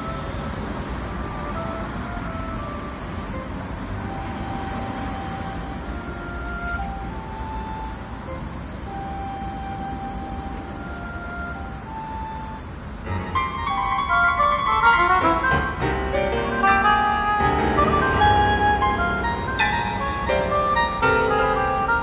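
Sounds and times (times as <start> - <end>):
road traffic noise: 0.0 - 22.0
slow melody of held notes: 0.0 - 22.0.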